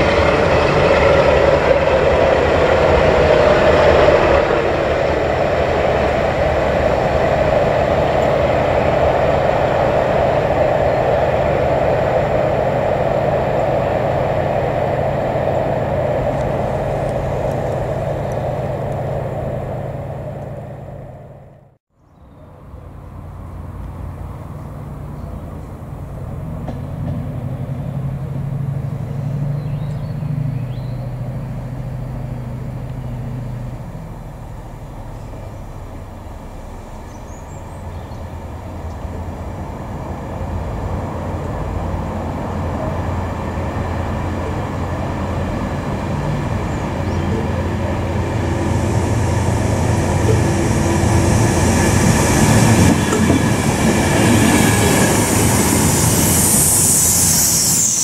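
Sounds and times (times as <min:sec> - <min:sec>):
low engine drone: 0:00.0 - 0:58.0
train passing: 0:00.0 - 0:58.0
wheel and rail noise: 0:00.0 - 0:58.0.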